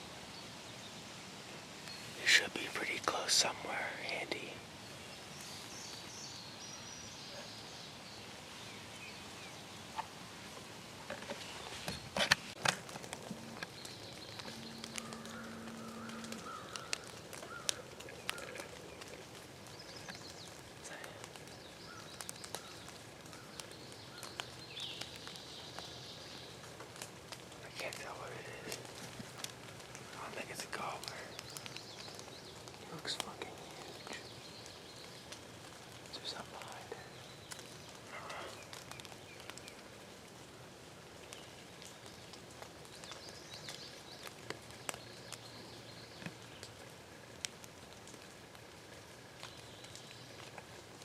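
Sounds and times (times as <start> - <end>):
distant songbirds chirping: 0.0 - 51.0
distant bird calls: 1.7 - 47.0.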